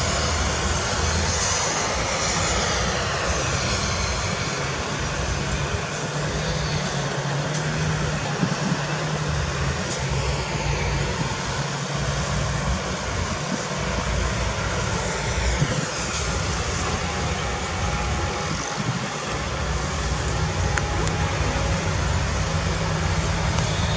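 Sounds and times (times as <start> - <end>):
heavy diesel engines running: 0.0 - 23.9.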